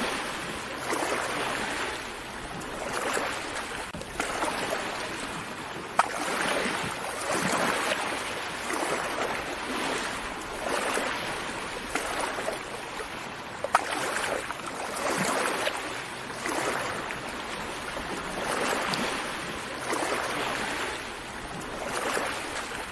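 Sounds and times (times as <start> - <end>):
sea waves washing onto beach: 0.0 - 22.9.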